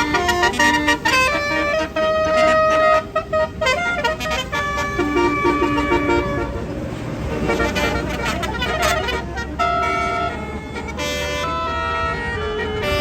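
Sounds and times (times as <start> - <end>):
bus musical horn playing a tune: 0.0 - 13.0.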